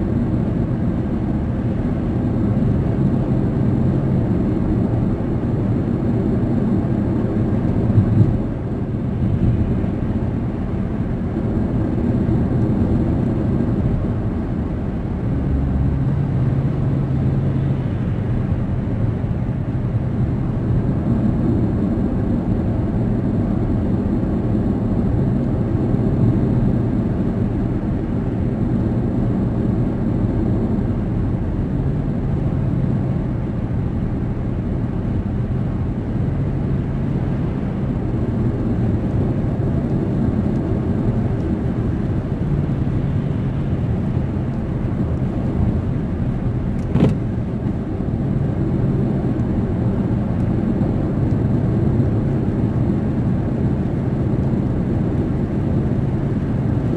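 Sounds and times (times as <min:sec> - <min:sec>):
car engine drone: 0:00.0 - 0:56.9.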